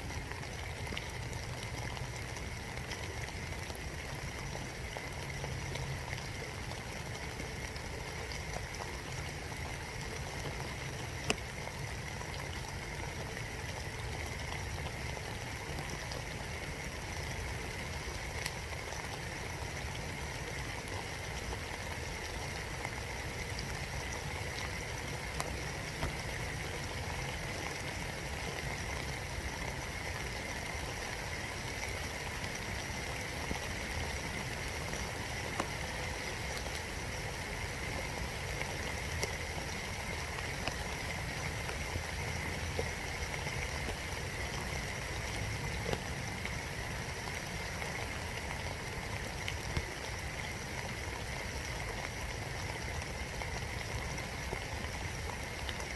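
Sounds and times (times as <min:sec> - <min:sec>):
rain falling in woodland: 0:00.0 - 0:55.9.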